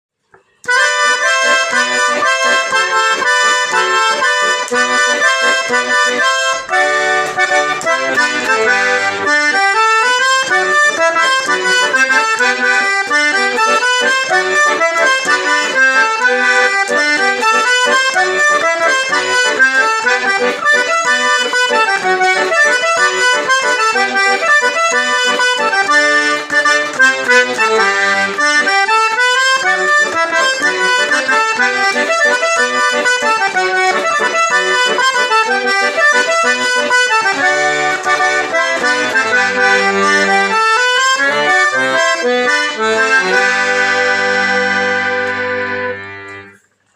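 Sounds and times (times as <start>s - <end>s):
accordion folk dance tune: 0.3s - 46.9s.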